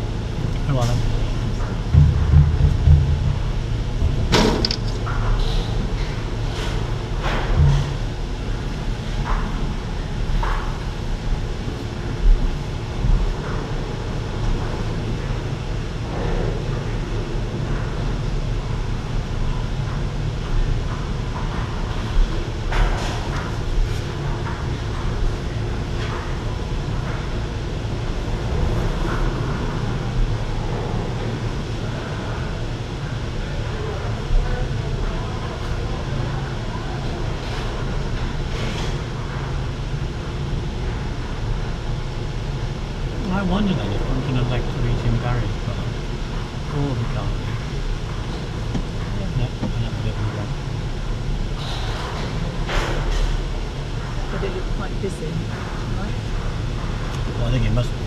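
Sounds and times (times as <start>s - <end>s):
gondola lift machinery rumble: 0.0s - 58.0s.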